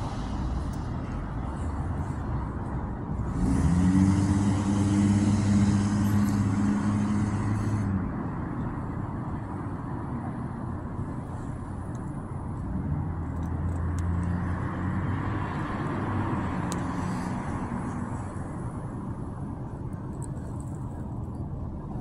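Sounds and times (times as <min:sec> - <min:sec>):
vehicle engine rumble passing: 0:00.0 - 0:22.0.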